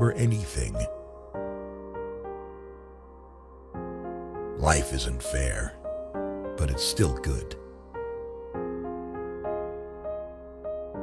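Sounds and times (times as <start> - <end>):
quiet piano music: 0.0 - 11.0.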